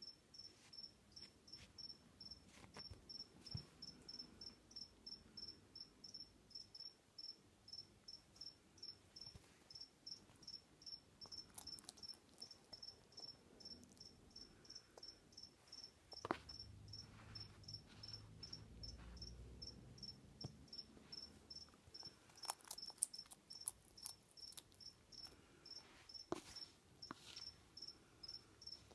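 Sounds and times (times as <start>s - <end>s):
cricket chirping: 0.0s - 28.9s.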